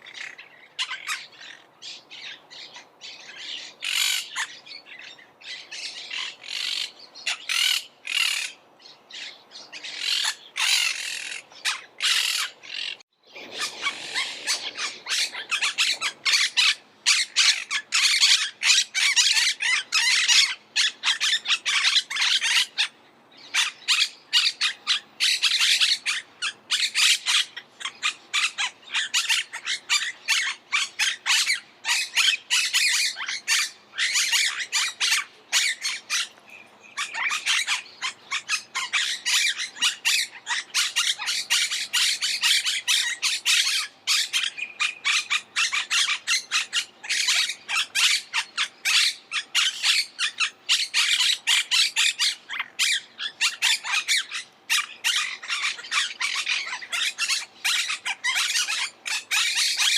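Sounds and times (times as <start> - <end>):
parakeets squawking: 0.0 - 59.9.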